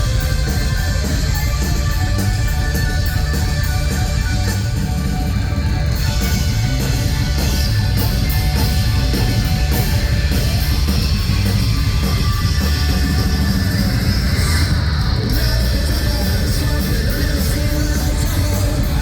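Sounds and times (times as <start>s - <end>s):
distorted electric guitars: 0.0s - 19.0s
drum kit with cymbals: 0.0s - 19.0s.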